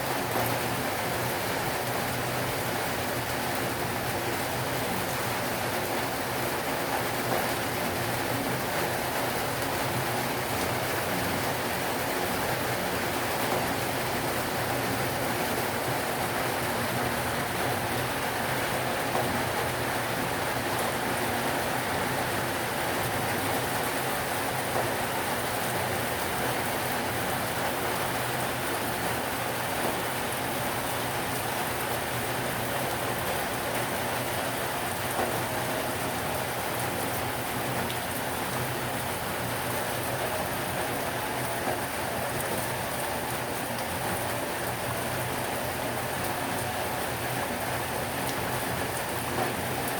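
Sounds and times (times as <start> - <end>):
heavy rain: 0.0 - 49.9
raindrops pattering on surfaces: 0.0 - 49.9.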